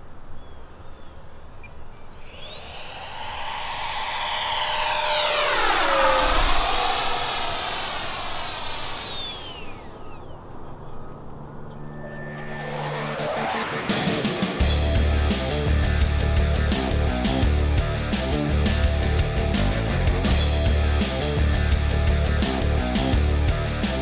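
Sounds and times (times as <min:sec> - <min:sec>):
rc jet fan whining: 0:00.0 - 0:24.0.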